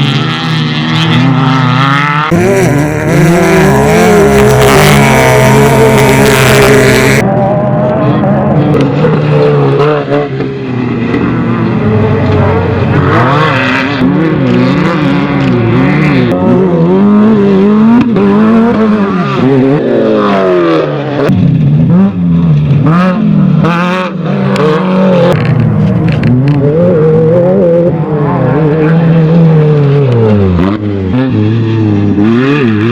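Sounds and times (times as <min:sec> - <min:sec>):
race engines revving: 0:00.0 - 0:32.9.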